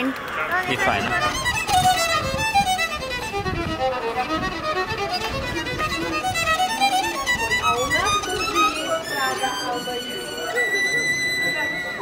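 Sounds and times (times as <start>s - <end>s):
instrumental music quick melody: 0.7s - 12.0s.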